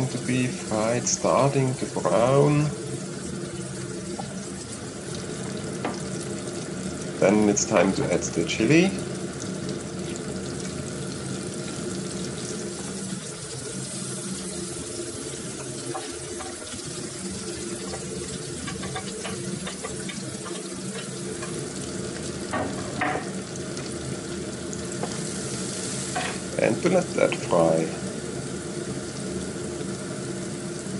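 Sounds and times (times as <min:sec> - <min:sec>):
food sizzling in frying pan: 0:00.0 - 0:30.9.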